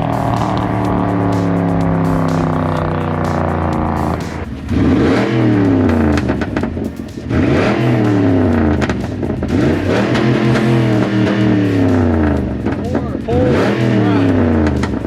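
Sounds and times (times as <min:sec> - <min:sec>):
car exhaust revving loudly: 0:00.0 - 0:15.0.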